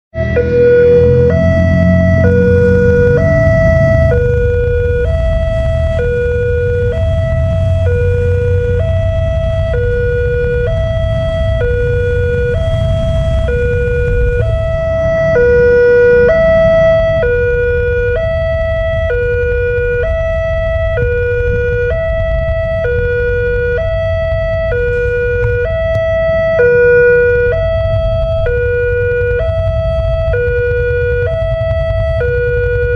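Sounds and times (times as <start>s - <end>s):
low traffic rumble: 0.1s - 32.9s
level crossing two-tone alarm: 0.2s - 32.9s.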